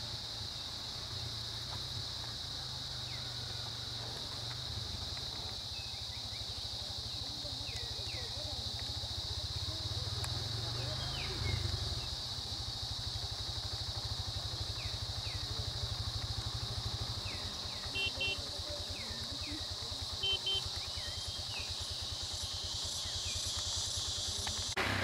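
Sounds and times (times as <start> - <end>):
engine idling: 0.0 - 25.0
insects droning: 0.0 - 25.0.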